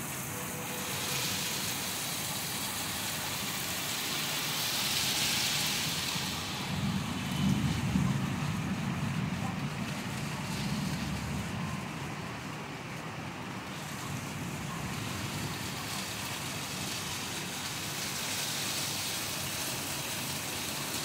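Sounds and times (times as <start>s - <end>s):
heavy rain on paving and foliage: 0.0s - 21.0s.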